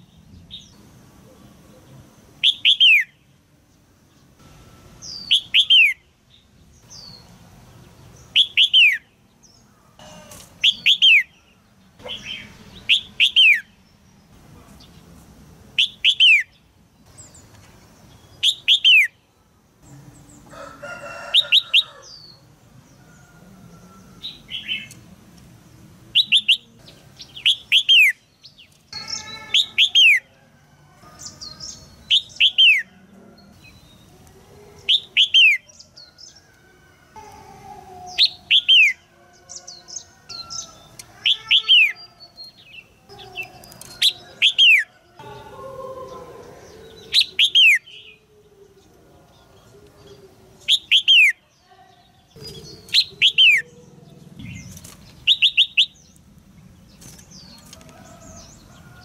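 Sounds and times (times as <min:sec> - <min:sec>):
bird chirping: 0:00.0 - 0:15.1, 0:15.8 - 0:25.1, 0:26.1 - 0:30.4, 0:31.0 - 0:59.0.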